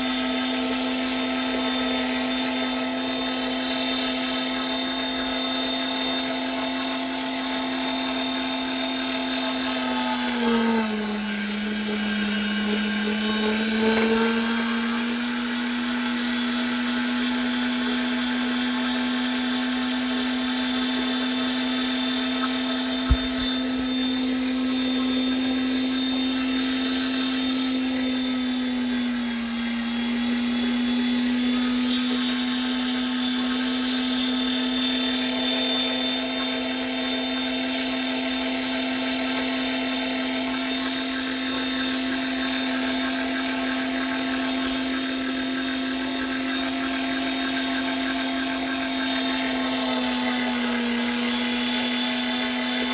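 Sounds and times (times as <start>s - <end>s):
meat grinder motor humming: 0.0s - 52.9s.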